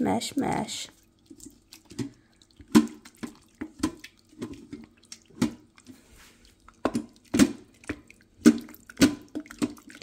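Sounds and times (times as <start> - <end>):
wooden spoon mashing thick curry: 0.9 - 10.0.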